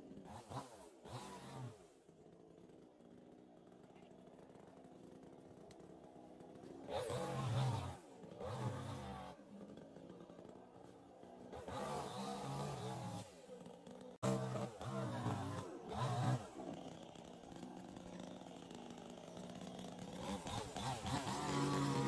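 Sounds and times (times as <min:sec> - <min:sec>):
chainsaw idling and revving: 0:00.0 - 0:22.0.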